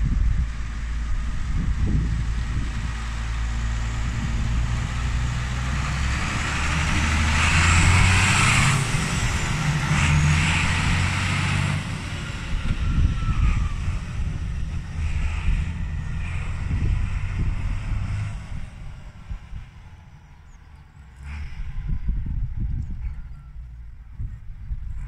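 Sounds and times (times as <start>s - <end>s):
tractor diesel engine driving past: 0.0s - 25.0s.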